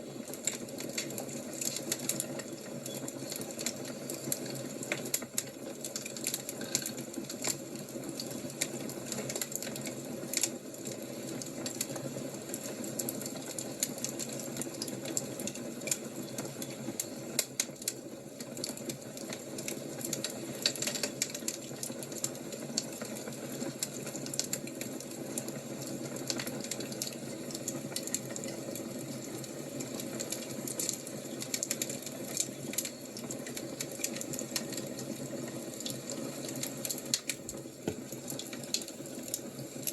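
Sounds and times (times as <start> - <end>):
wood fire crackling: 0.1 - 12.0, 12.6 - 39.9.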